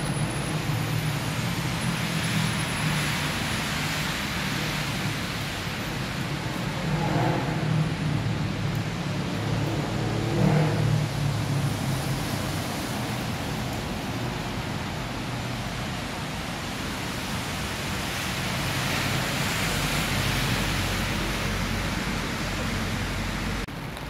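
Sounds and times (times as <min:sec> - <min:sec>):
outdoor street ambience: 0:00.0 - 0:24.0.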